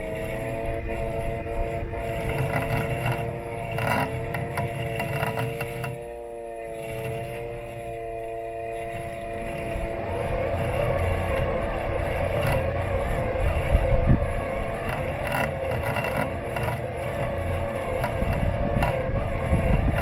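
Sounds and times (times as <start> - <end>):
knocks and scrapes: 0.0 - 6.0, 8.9 - 20.0
robot lawn mower motors whining: 0.0 - 20.0.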